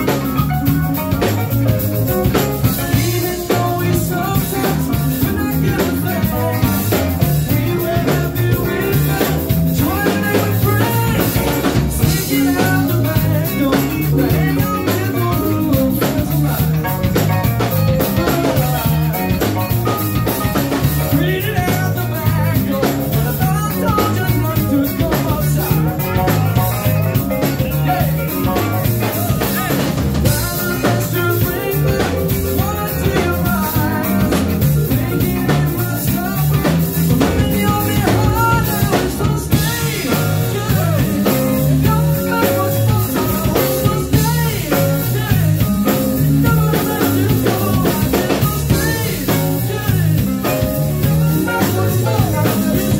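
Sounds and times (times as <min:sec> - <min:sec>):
drum kit beat: 0:00.0 - 0:52.9
electric guitar: 0:00.0 - 0:52.9
keyboards: 0:00.0 - 0:52.9
lead vocal singing: 0:00.0 - 0:52.9.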